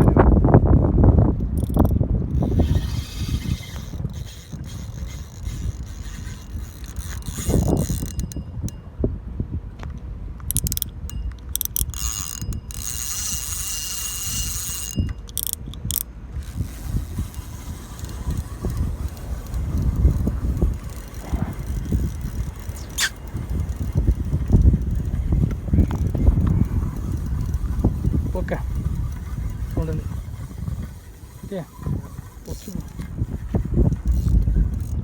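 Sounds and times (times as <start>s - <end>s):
fishing reel gears clicking: 1.4s - 8.8s, 10.4s - 35.0s.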